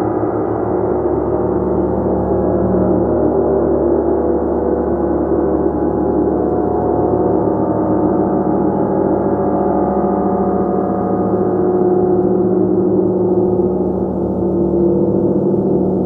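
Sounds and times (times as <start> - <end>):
gong wash: 0.0 - 16.0.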